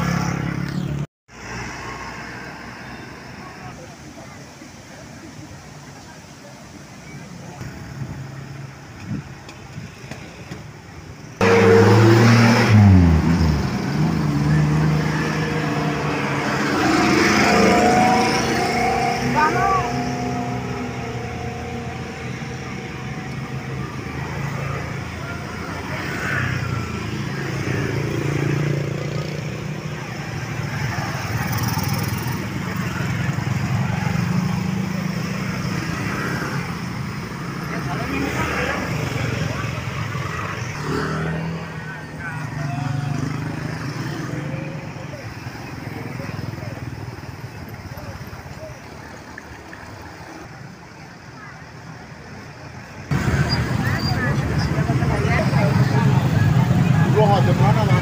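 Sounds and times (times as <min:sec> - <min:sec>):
jeep engine driving: 0:00.0 - 0:58.0.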